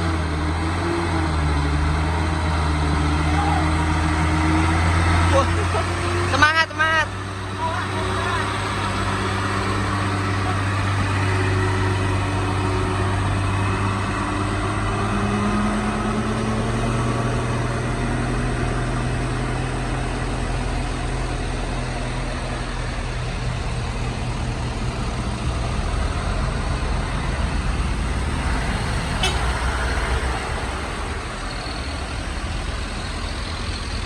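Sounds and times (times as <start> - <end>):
diesel truck engine labouring: 0.0 - 34.0.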